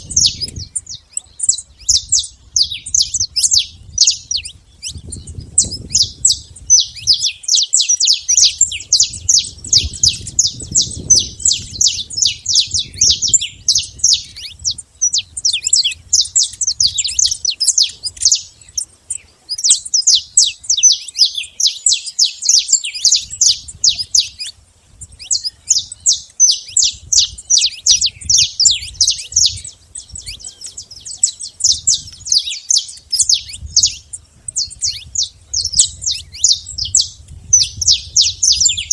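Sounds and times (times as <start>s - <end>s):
finch singing sharp chirps: 0.0s - 38.9s.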